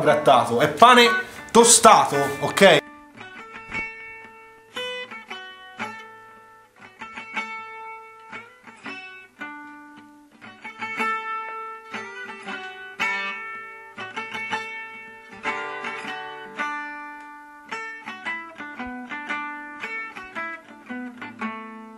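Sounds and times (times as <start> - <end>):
plucked guitar music: 0.0 - 21.9.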